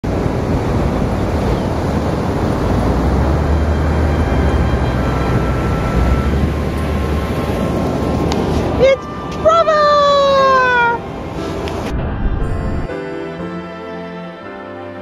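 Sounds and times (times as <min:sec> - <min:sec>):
wind buffeting microphone: 0:00.0 - 0:12.9
ocean surf: 0:00.0 - 0:15.0.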